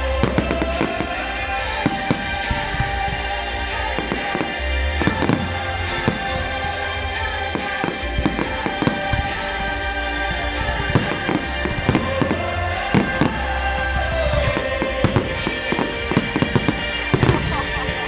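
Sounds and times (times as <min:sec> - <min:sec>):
fireworks bursting and crackling: 0:00.0 - 0:18.0
loud music: 0:00.0 - 0:18.0.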